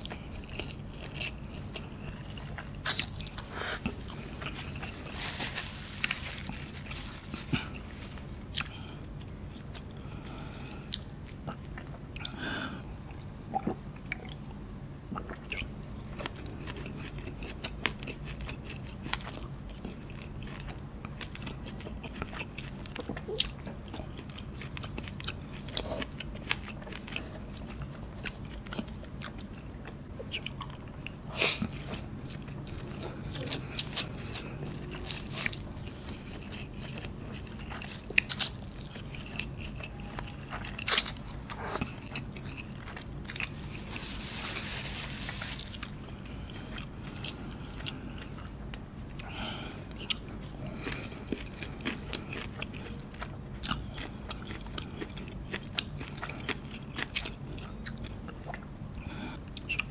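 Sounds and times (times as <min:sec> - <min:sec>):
chewing and crunching noodles: 0:00.0 - 0:59.9.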